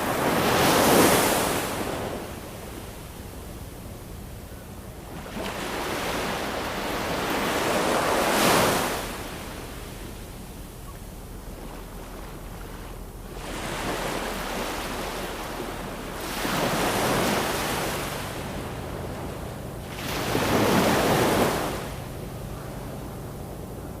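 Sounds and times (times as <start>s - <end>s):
ocean waves breaking on shore: 0.0s - 4.1s, 4.7s - 24.0s.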